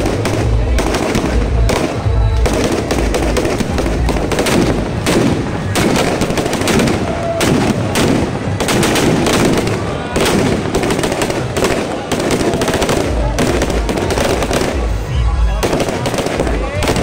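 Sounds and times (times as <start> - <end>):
firecrackers bursting: 0.0 - 17.0.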